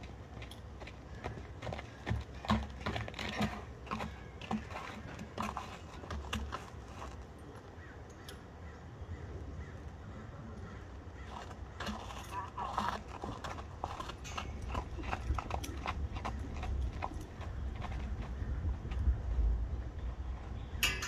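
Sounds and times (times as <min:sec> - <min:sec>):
hoofbeats on dirt: 0:00.0 - 0:07.7, 0:11.2 - 0:20.8.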